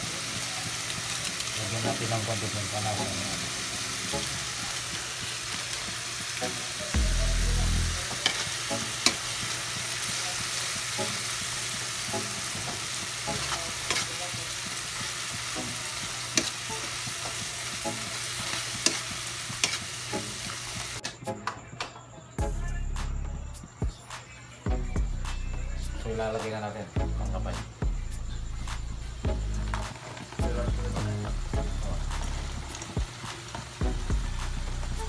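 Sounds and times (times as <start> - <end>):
vegetables sizzling in a wok: 0.0 - 21.1, 24.7 - 35.0.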